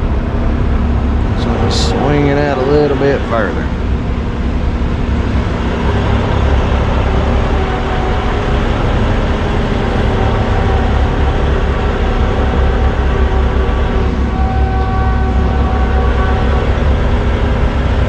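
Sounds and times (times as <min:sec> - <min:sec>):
truck diesel engine rumbling: 0:00.0 - 0:18.0.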